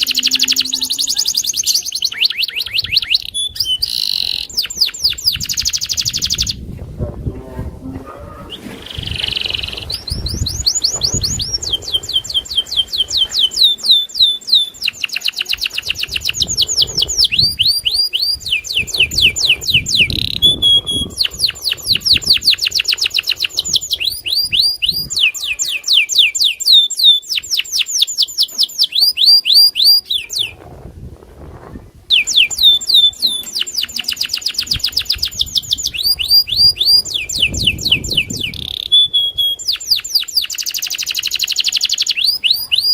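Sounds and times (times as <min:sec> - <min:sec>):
canary singing trills: 0:00.0 - 0:06.7, 0:07.4 - 0:30.6, 0:32.1 - 0:42.9.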